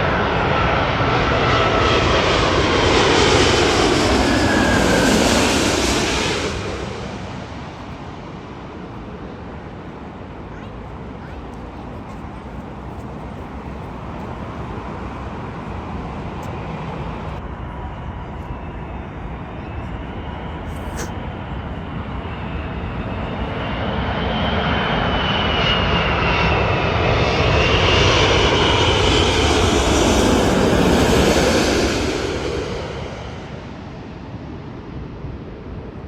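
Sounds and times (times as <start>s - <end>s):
jet airliner engines: 0.0s - 36.0s.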